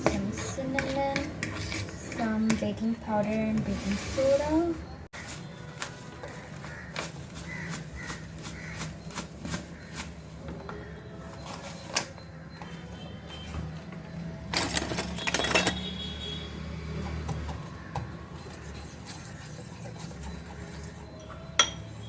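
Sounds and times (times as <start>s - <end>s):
utensils clinking against a bowl: 0.0s - 16.2s, 17.0s - 22.0s.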